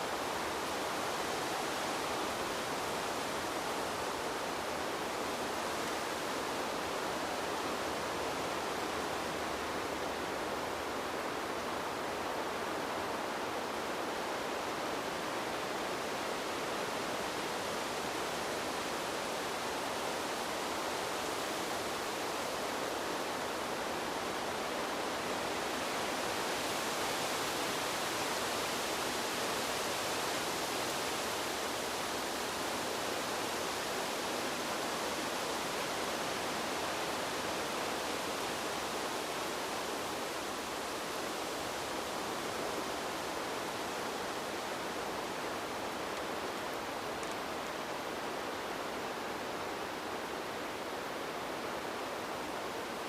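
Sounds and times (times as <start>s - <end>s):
steady rushing wind: 0.0s - 53.0s.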